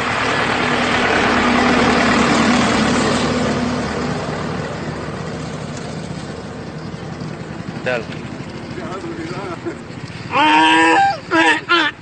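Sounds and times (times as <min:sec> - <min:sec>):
heavy truck driving past: 0:00.0 - 0:11.5.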